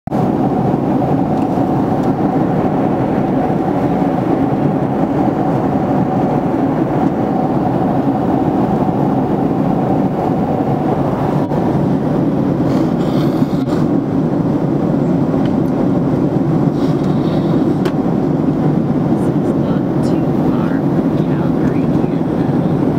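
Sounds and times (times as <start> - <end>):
jet engines and airflow rushing: 0.1 - 22.9.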